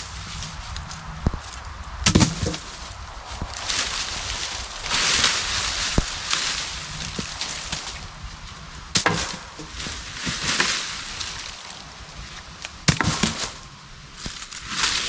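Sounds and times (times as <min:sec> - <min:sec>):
dead branches cracking and snapping: 0:00.0 - 0:15.0
leaves and debris rustling: 0:00.0 - 0:15.0.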